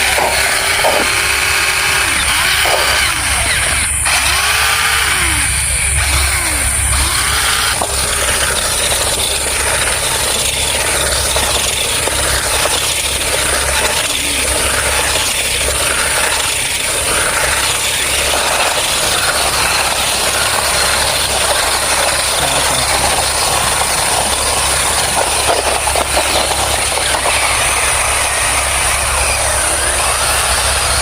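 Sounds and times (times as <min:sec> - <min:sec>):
toy cars rumbling and rattling: 0:00.0 - 0:31.0.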